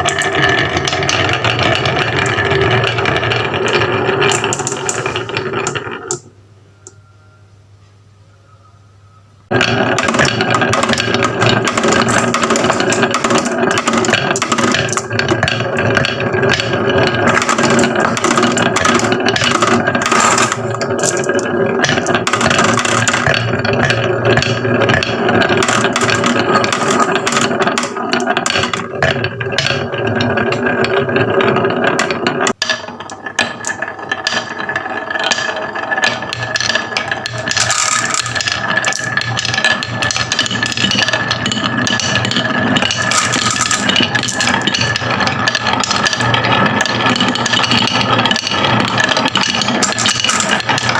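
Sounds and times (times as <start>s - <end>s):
marbles clattering down a track: 0.0s - 6.3s, 9.5s - 50.9s
steady mechanical hum: 0.0s - 50.9s.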